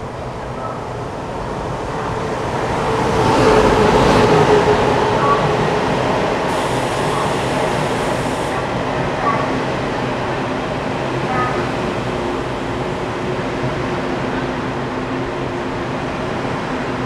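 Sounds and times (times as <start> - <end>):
train coaches rolling past: 0.0 - 17.0.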